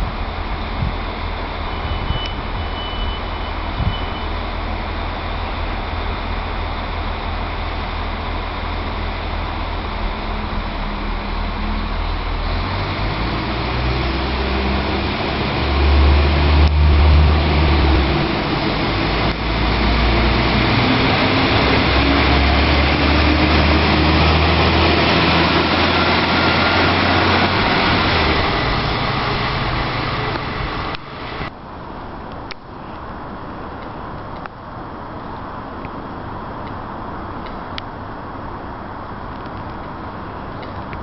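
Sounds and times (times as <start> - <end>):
diesel railcar engine rumble: 0.0 - 41.0
wheels rushing on rail: 0.0 - 41.0.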